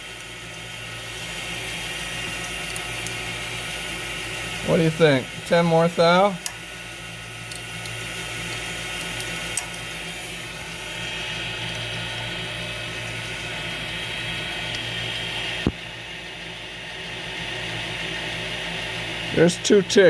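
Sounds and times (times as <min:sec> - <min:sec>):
high steady whine: 0:00.0 - 0:20.0
metal lathe humming: 0:00.0 - 0:20.0.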